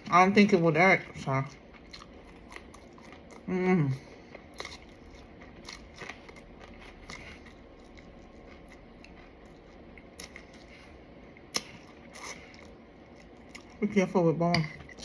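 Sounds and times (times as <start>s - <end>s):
soft eating clicks and crunches: 0.0s - 15.0s.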